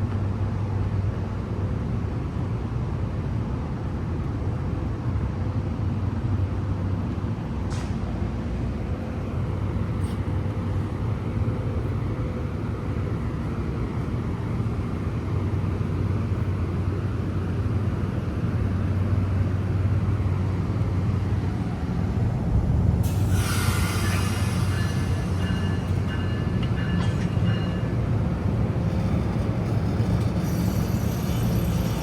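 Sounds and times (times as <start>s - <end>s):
train running with low hum: 0.0s - 32.0s.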